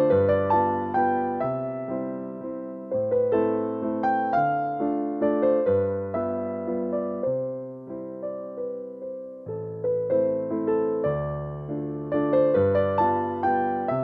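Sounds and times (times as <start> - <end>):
gentle electric piano music: 0.0 - 14.0.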